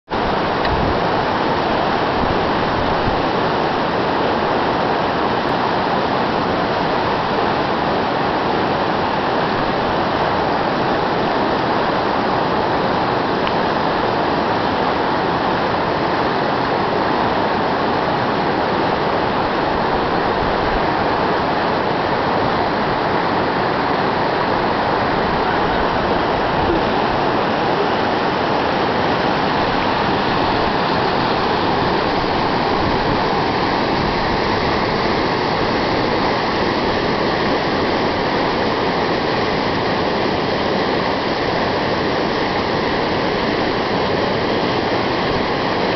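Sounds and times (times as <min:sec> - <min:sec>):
whitewater rapids roaring: 0:00.1 - 0:45.9.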